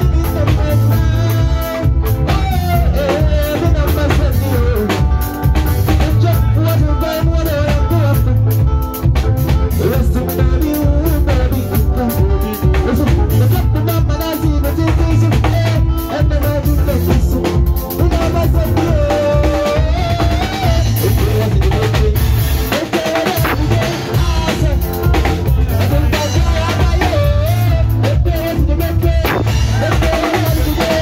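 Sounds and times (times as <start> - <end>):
steady bass beat: 0.0 - 22.7, 23.4 - 31.0
drum kit: 0.0 - 31.0
man singing into a microphone: 0.0 - 31.0.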